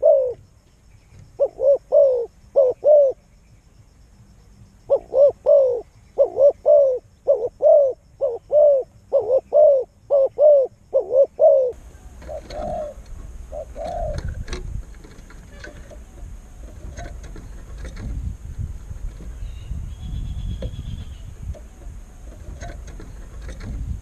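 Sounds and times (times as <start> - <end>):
bird calling: 0.0 - 3.2, 4.9 - 18.0, 19.2 - 23.6.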